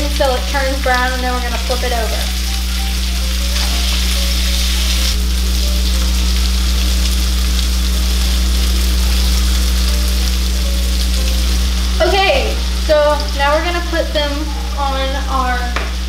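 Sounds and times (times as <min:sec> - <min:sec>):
chicken sizzling in a skillet: 0:00.0 - 0:16.0
low hum: 0:00.0 - 0:16.0.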